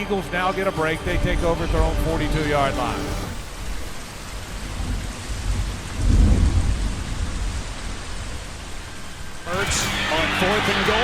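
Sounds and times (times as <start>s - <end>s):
heavy rain hissing: 0.1s - 11.0s.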